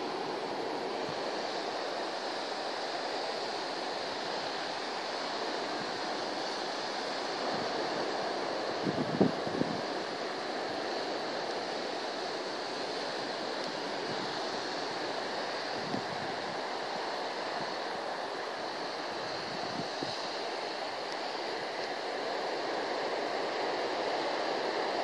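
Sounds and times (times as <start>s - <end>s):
ocean surf rushing: 0.0s - 25.0s
wind: 0.0s - 25.0s.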